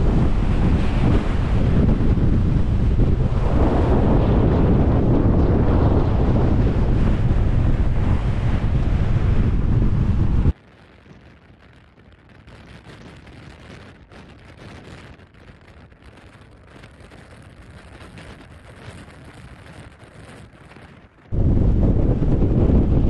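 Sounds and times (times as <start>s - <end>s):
faint wind: 0.0s - 23.0s
strong wind buffeting microphone: 0.0s - 23.0s.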